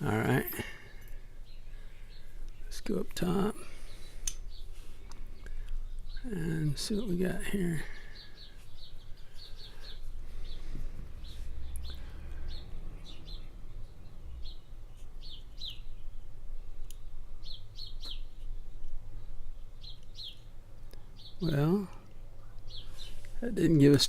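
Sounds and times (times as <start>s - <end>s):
small bird chirping: 0.0s - 24.0s.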